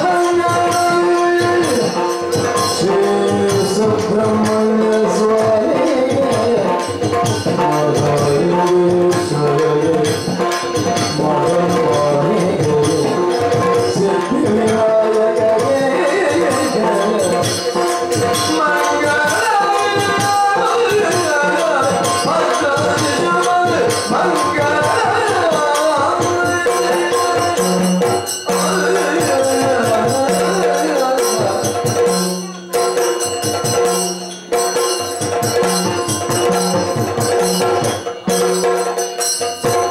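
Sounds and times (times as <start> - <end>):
person singing: 0.0 - 33.0
drums: 0.0 - 39.9
hand cymbals: 0.0 - 39.9.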